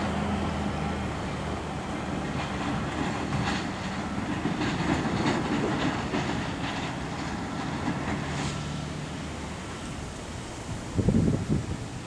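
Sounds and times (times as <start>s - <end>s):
locomotive engine drone: 0.0s - 12.0s
train wheels clicking over rail joints: 0.0s - 12.0s.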